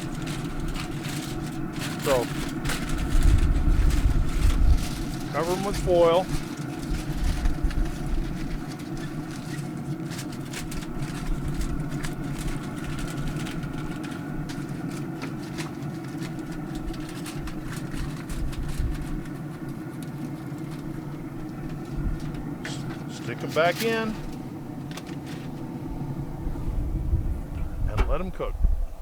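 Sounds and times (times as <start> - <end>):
aluminium foil crinkling: 0.0 - 25.8
low mechanical hum: 0.0 - 29.0.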